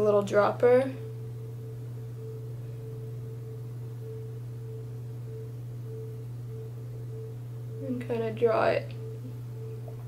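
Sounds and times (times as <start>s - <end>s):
faint high tone: 0.0s - 10.0s
steady low hum: 0.0s - 10.0s.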